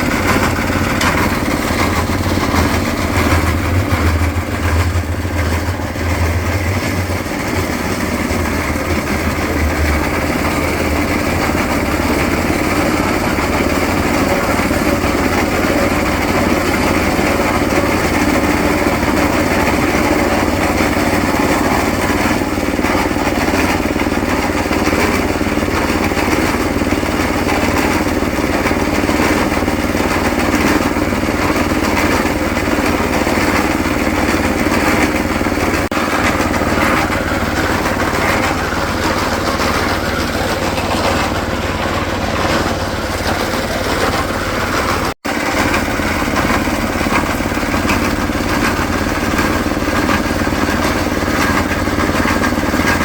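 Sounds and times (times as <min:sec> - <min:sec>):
concrete mixer engine running: 0:00.0 - 0:53.0.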